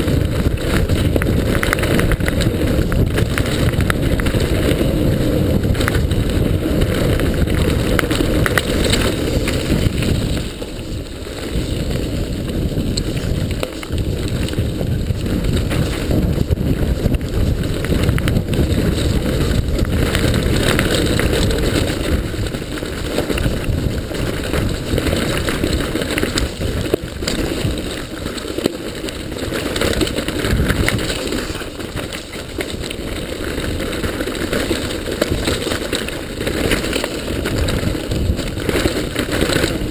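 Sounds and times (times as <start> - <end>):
bike rattling and knocking: 0.0 - 39.9
bike tyres rumbling over dirt: 0.0 - 39.9.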